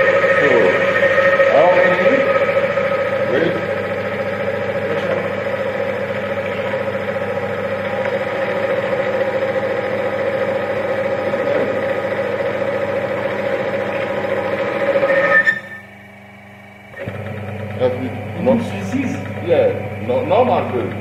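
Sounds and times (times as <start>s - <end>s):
machine motor whining: 0.0s - 21.0s.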